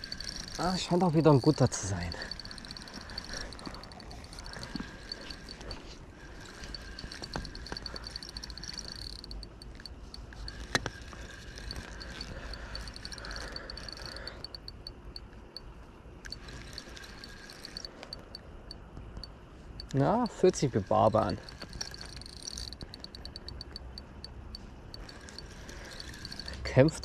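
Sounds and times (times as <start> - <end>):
frogs trilling: 0.0 - 15.2, 16.2 - 18.8, 19.8 - 27.0
insects chirping: 0.0 - 27.0.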